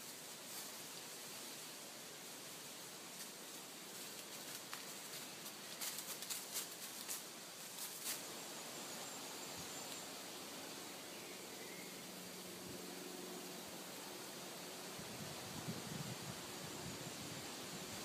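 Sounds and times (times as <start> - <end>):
breeze through trees: 0.0 - 18.0
faint steady hiss: 0.0 - 18.0
rustling and crackling in woodland: 0.0 - 18.0.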